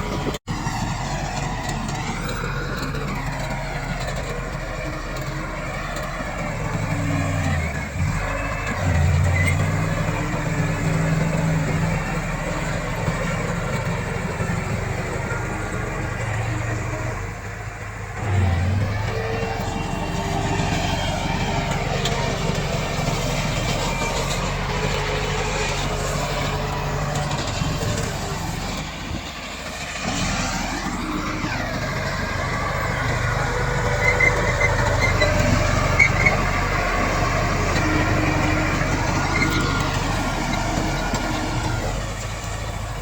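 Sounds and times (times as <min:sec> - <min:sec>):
bulldozer diesel engine revving: 0:00.0 - 0:43.0.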